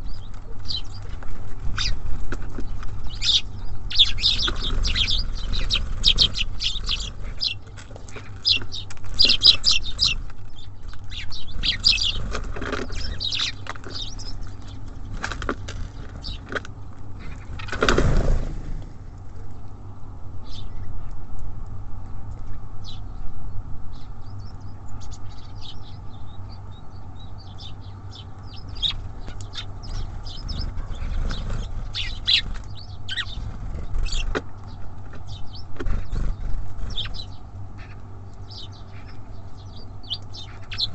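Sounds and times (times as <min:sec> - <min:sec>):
low steady rumble: 0:00.0 - 0:40.9
songbirds chirping: 0:00.0 - 0:40.9.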